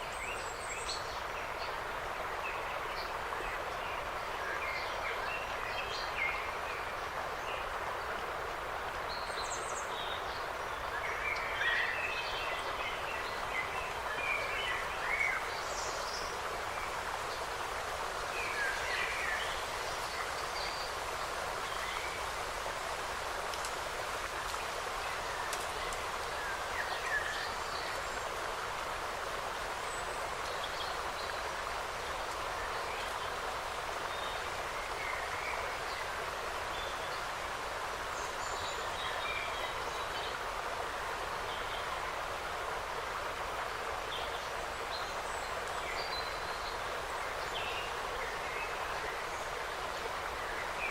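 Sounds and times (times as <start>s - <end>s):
steady rushing hiss: 0.0s - 50.9s.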